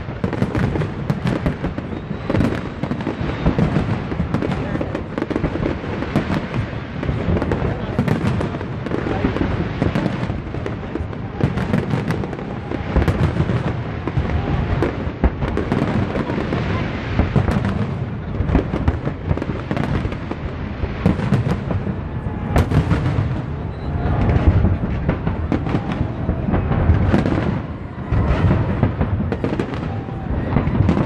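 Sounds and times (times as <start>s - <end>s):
fireworks booms and cracks: 0.0s - 31.0s.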